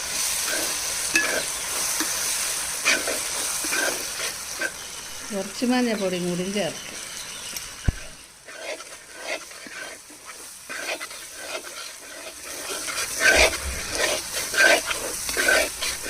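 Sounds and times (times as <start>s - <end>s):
spatula scraping frying pan: 0.0s - 6.1s, 7.8s - 16.0s.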